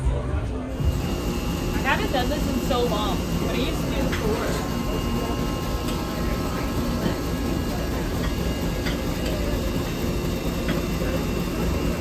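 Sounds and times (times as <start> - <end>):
machinery rumbling: 0.2 - 12.0.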